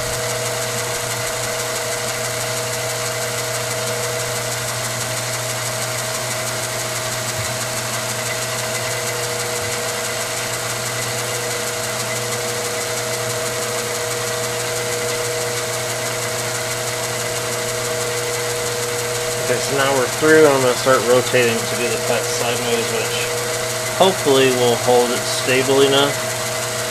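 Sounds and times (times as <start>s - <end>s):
milling machine cutting metal: 0.0s - 26.9s.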